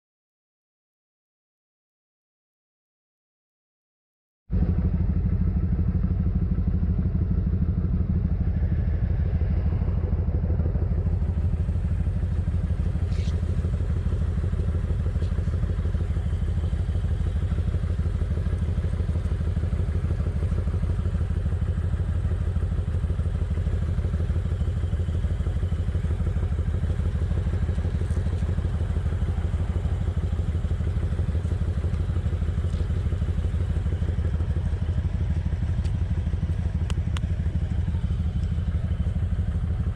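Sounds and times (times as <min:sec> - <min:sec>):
motorcycle engine running: 0:04.5 - 0:39.9.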